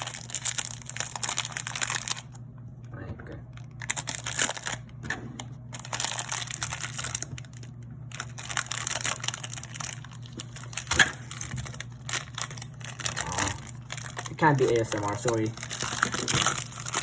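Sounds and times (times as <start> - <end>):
plastic packaging crinkling: 0.0 - 2.4, 3.5 - 5.0, 5.7 - 17.0
steady low hum: 0.0 - 17.0.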